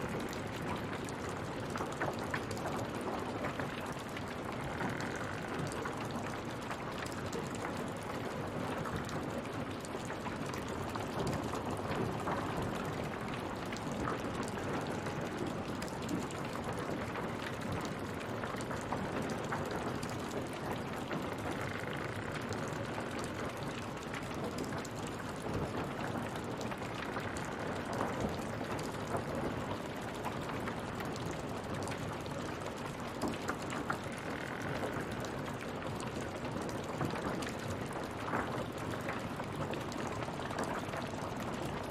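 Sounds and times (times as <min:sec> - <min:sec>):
rain patter: 0:00.0 - 0:41.9.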